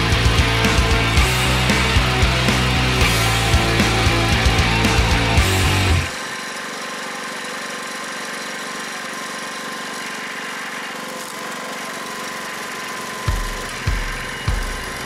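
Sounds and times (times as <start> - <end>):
small gas engine idling: 0.0 - 15.0.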